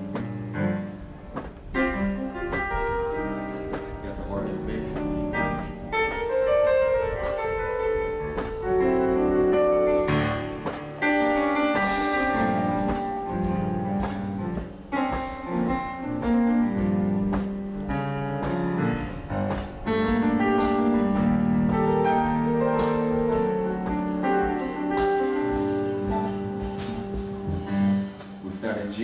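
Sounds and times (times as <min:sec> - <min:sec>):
electronic keyboard playing: 0:00.0 - 0:29.0.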